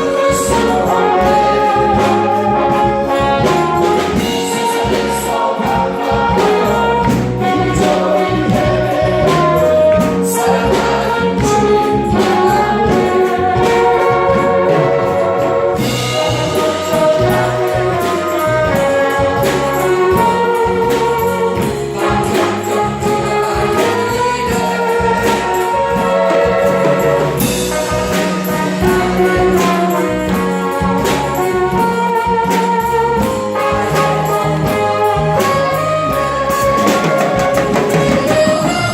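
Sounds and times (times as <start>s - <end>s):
choir singing: 0.0s - 38.9s
gospel music with brass: 0.0s - 38.9s.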